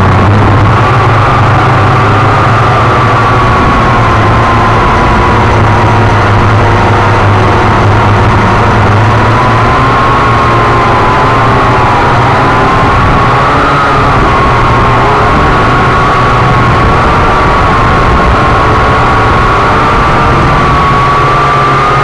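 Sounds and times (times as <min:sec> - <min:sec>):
drone motors whirring: 0:00.0 - 0:22.0.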